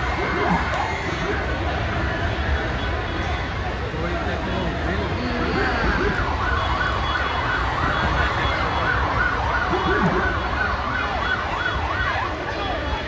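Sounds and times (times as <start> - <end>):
low traffic rumble: 0.0 - 13.0
sirens yelping: 0.0 - 13.0.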